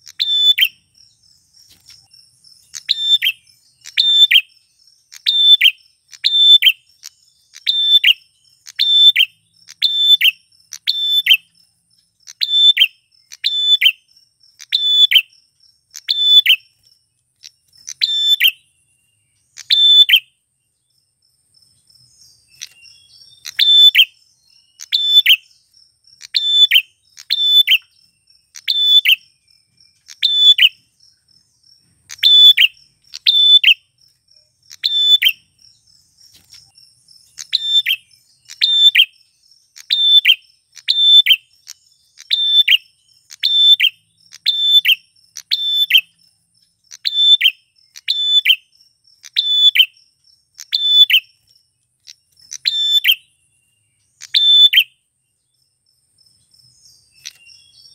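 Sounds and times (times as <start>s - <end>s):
bird chirping: 0.0s - 57.9s
faint high insect-like tone: 0.0s - 57.9s.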